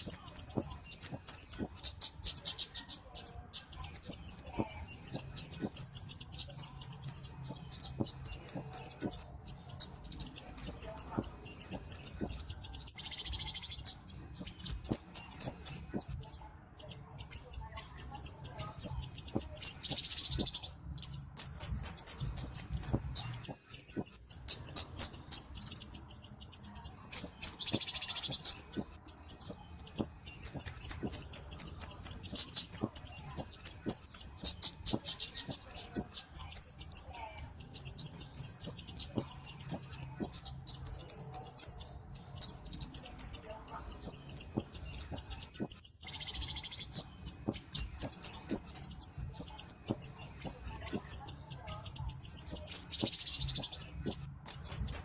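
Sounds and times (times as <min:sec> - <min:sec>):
high thin bird ticking chips: 0:00.0 - 0:55.0.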